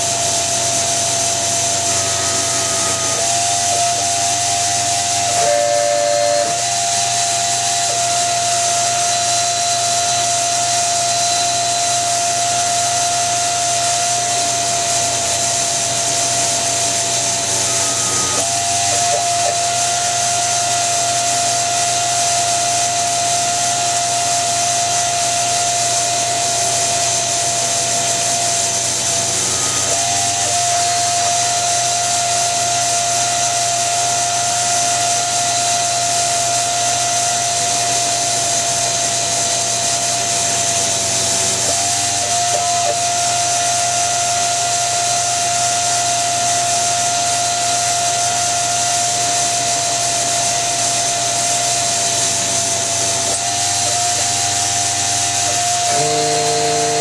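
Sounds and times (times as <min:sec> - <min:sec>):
mill spindle whine: 0:00.0 - 0:57.0.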